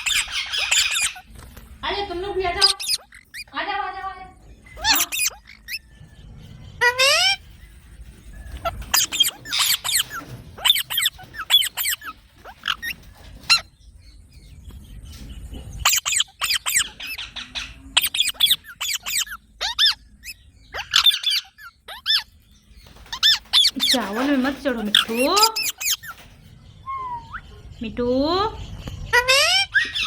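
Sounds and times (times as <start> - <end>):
parakeets screeching: 0.0 - 14.2, 15.7 - 30.0.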